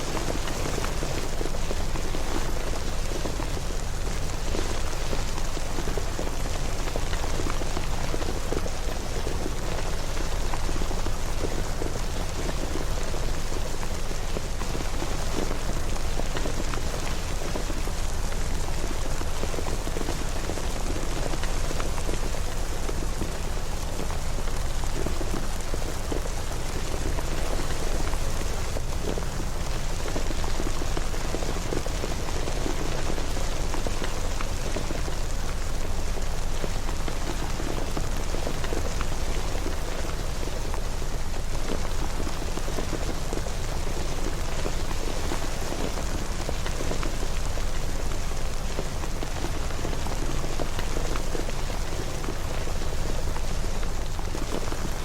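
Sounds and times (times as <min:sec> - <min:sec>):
raindrop patter: 0:00.0 - 0:55.0
steady rain hiss: 0:00.0 - 0:55.0.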